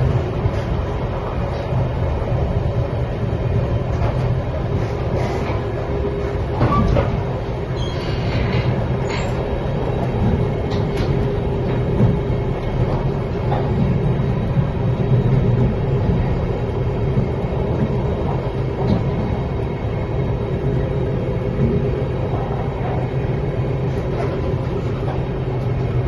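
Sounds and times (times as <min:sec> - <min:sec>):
train rumbling at speed: 0:00.0 - 0:26.0.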